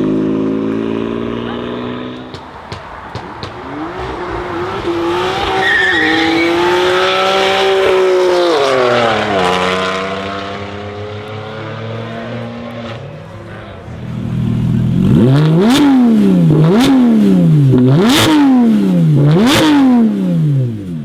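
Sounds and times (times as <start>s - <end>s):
exhaust pops: 0.0s - 21.0s
sports car engine revving: 0.0s - 21.0s.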